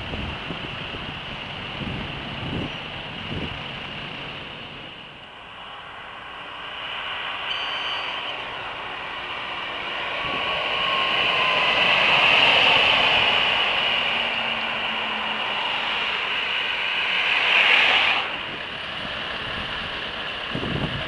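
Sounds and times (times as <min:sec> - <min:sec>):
truck passing by: 0:00.0 - 0:21.0.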